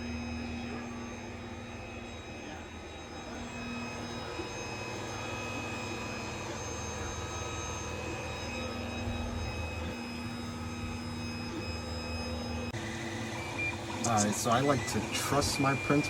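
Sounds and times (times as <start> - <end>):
cooling fans humming: 0.0 - 16.0
stepper motors whining: 0.0 - 16.0.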